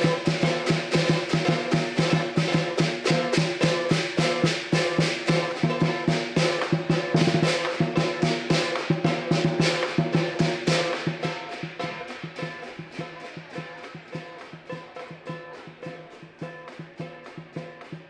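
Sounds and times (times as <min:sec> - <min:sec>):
crashing cymbals: 0:00.0 - 0:18.0
lion drum beating: 0:00.0 - 0:18.0
ringing gong: 0:00.0 - 0:18.0.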